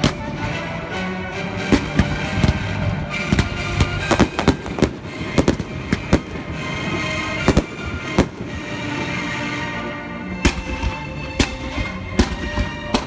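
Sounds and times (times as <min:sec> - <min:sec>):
fireworks bursting: 0:00.0 - 0:13.0
music playing: 0:00.0 - 0:13.0.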